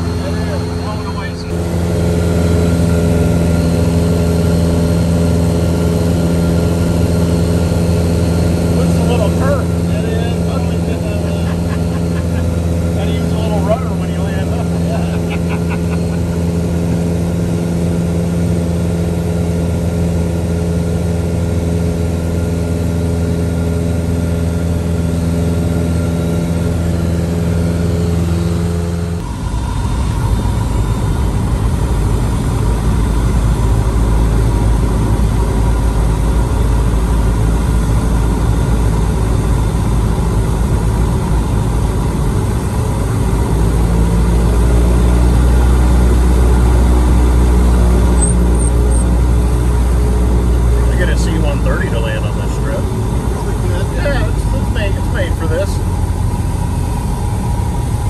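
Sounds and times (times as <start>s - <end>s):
vehicle engine droning: 0.0s - 58.0s.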